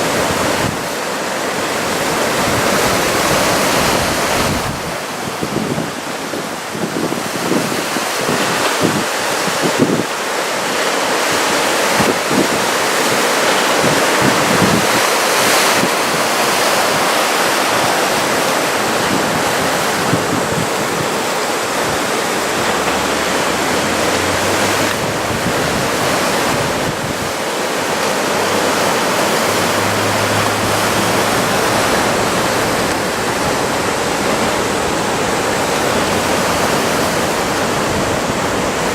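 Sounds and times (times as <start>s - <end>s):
ocean surf breaking: 0.0s - 38.9s
wind buffeting microphone: 0.0s - 38.9s.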